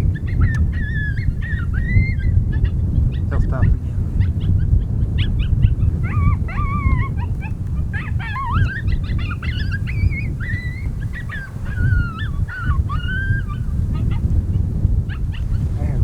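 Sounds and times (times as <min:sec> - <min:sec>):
coyotes yipping and howling: 0:00.0 - 0:16.0.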